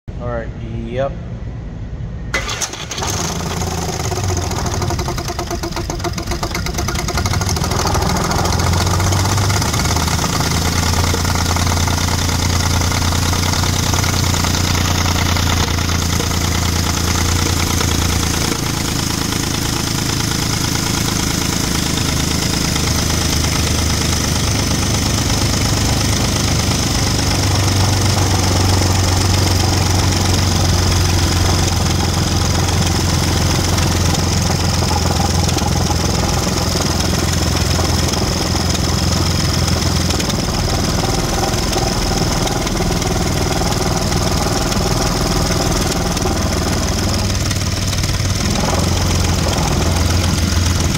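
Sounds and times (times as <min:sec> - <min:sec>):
car engine starting: 0:02.3 - 0:50.9
engine idling with knocking: 0:02.4 - 0:50.9.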